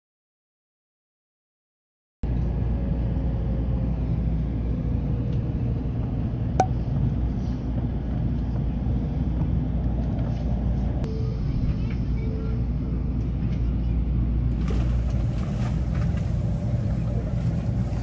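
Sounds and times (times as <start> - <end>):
train cabin low rumble: 2.2 - 18.0.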